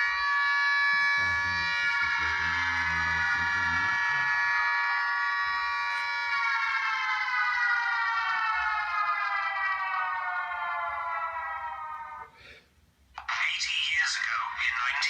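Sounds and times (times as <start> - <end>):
air raid siren wailing: 0.0 - 12.4.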